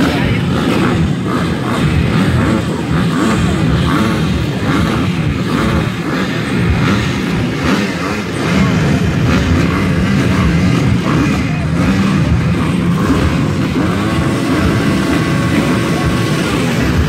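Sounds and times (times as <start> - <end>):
dirt-bike engines revving: 0.0 - 17.0.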